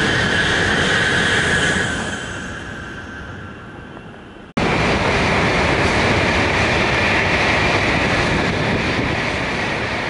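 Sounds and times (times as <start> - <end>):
train rushing roar: 0.0 - 10.0.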